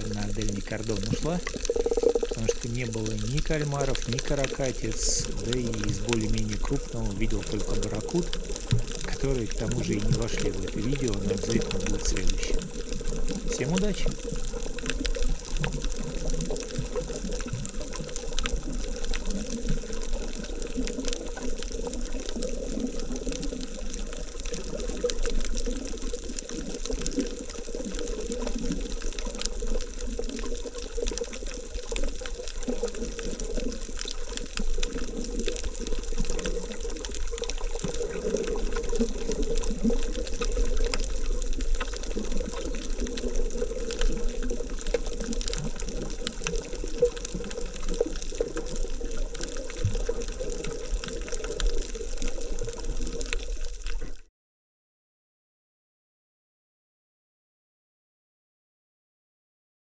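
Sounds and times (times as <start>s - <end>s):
faint clicks: 0.0s - 54.2s
muffled underwater water rush: 0.0s - 54.3s.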